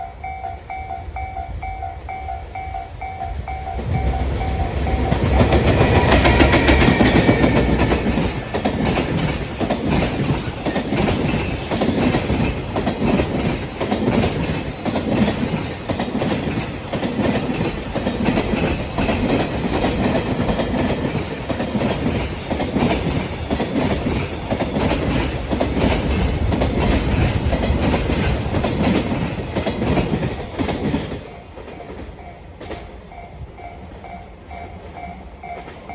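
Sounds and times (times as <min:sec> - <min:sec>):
electric locomotive passing: 0:00.0 - 0:35.9
train wheels clacking on rail joints: 0:03.5 - 0:35.9.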